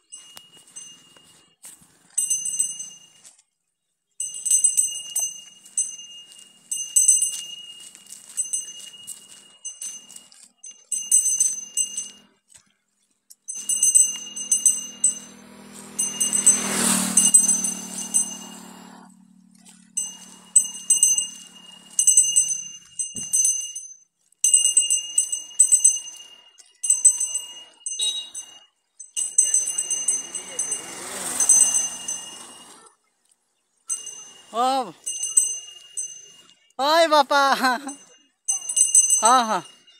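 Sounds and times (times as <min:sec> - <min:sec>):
small bell ringing: 0:00.0 - 0:03.4, 0:04.2 - 0:12.5, 0:13.4 - 0:33.0, 0:33.8 - 0:39.9.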